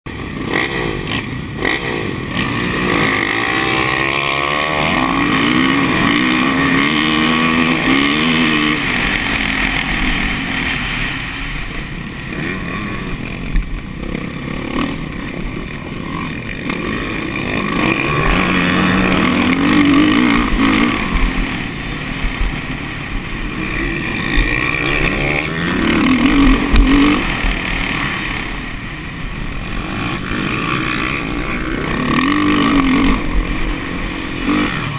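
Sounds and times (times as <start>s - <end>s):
motocross bike engines revving: 0.1s - 34.9s.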